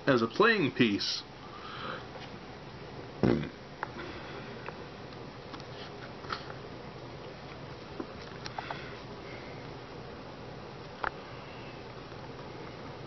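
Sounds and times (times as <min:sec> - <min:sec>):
room hiss: 0:00.0 - 0:13.0.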